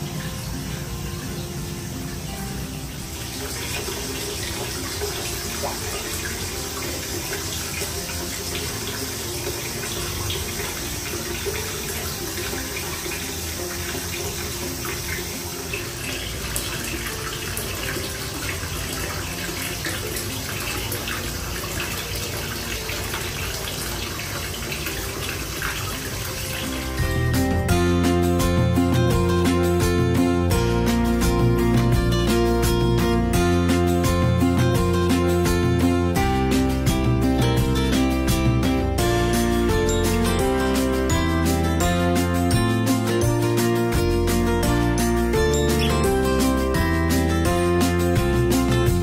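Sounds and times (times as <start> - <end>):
water splashing from spout into bath: 2.8 - 49.0.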